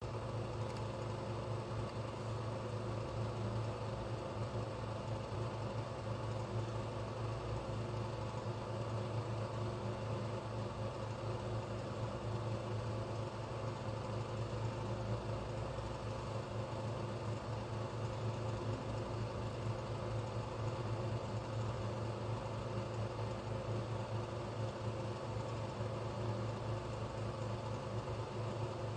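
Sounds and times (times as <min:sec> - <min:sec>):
low mechanical hum: 0:00.0 - 0:28.9.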